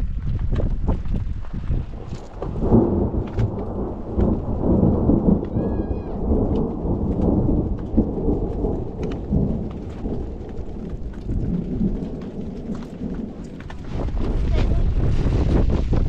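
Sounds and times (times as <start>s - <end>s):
thunder rumbling: 0.8s - 16.0s
light rain ticking: 1.9s - 15.4s.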